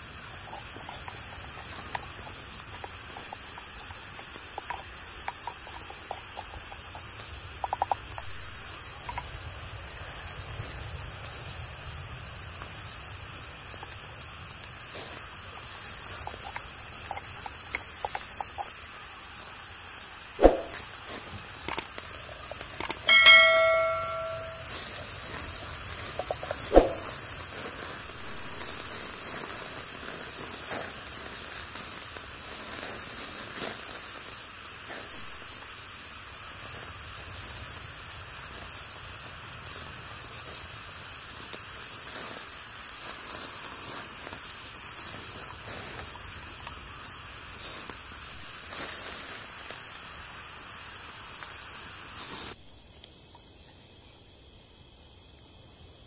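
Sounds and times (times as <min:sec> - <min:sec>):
wood fire crackling: 0:00.0 - 0:53.2
insects chirring: 0:00.0 - 0:56.0.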